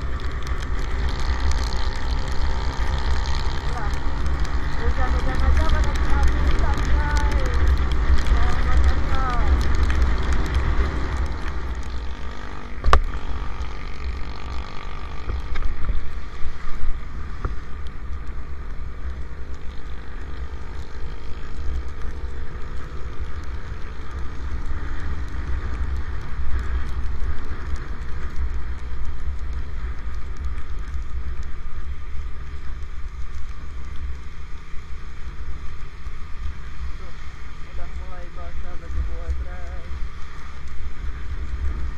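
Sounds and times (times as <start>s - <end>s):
road and traffic hiss: 0.0s - 41.9s
wind buffeting microphone: 0.0s - 41.9s.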